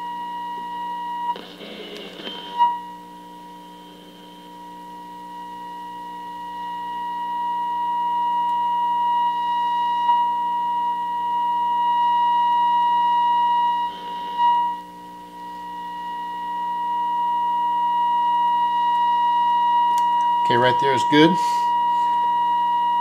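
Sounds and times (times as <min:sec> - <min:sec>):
radio test tone: 0:00.0 - 0:23.0.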